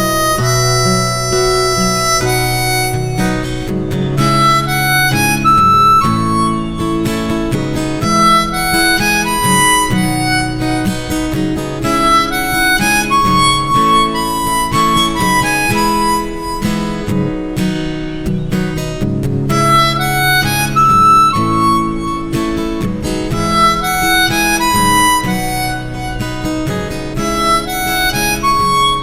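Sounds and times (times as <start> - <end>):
acoustic guitar strumming: 0.0 - 29.0
harmonica folk melody: 0.0 - 29.0.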